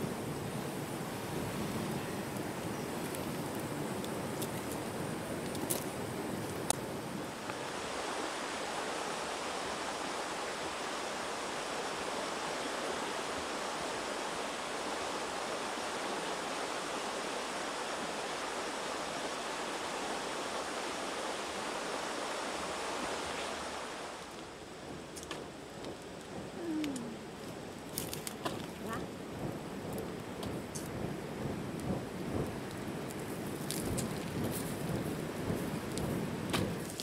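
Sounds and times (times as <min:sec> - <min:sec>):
steady rushing hiss: 0:00.0 - 0:37.0.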